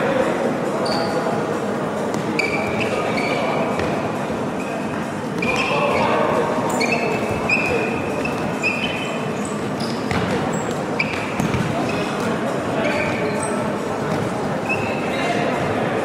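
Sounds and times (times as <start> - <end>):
spectators' voices echoing: 0.0 - 16.0
shoes squeaking on court floor: 0.8 - 1.4, 2.0 - 15.8.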